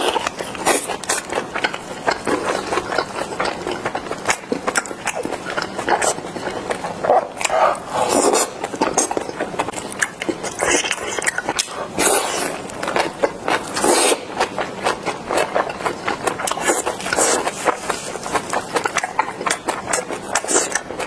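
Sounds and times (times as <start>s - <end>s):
person chewing with wet smacks: 0.0s - 21.0s.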